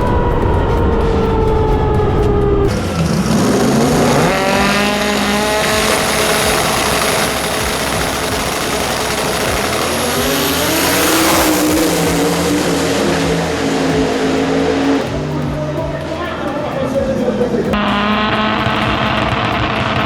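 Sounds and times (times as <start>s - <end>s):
drag racing car accelerating: 0.0s - 20.0s.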